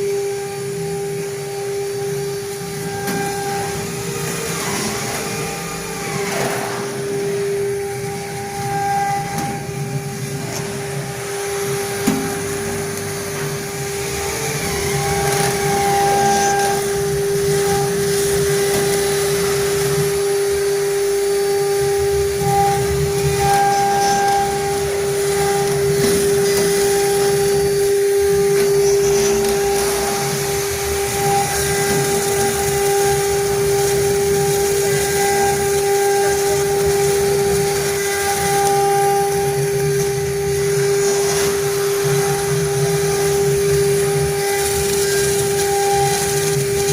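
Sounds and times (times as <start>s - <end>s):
router spindle engraving stone: 0.0s - 46.9s.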